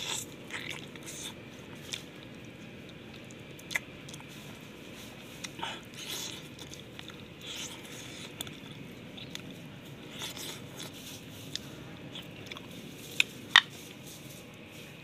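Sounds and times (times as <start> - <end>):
man chewing: 0.0 - 14.7.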